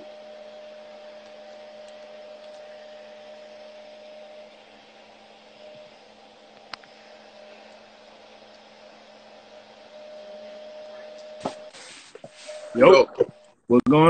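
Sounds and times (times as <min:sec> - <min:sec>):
hair dryer blower hiss and hum: 0:00.0 - 0:13.5
steady whining tone: 0:00.0 - 0:13.6.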